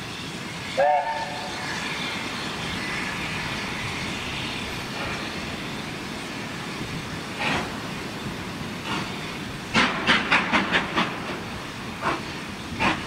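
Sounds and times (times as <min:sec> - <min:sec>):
steam train rushing: 0:00.0 - 0:13.0.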